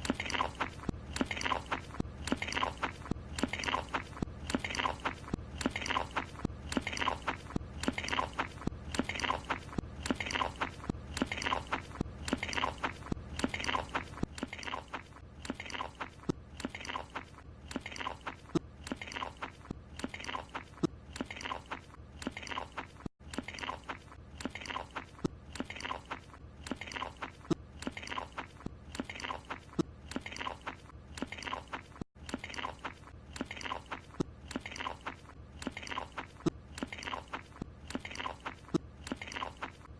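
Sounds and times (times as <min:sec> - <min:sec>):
cartoon crunchy chewing: 0:00.0 - 0:39.9.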